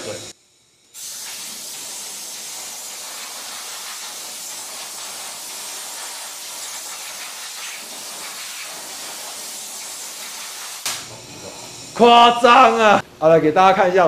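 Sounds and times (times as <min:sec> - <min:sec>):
hose spraying water: 0:00.9 - 0:12.9.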